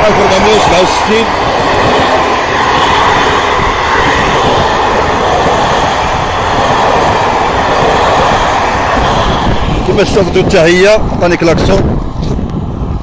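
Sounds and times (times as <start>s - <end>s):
steel wheels on rails: 0.0s - 13.0s.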